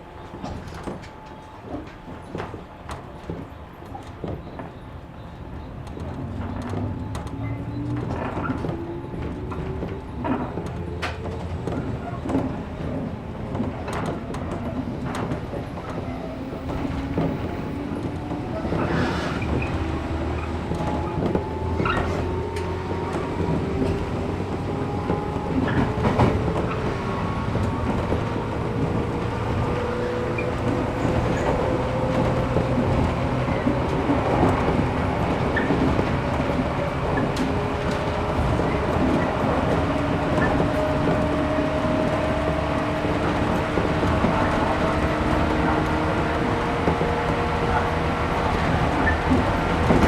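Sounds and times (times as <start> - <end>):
train running rumble: 0.0 - 50.0
wheels clicking over rail joints: 0.0 - 50.0.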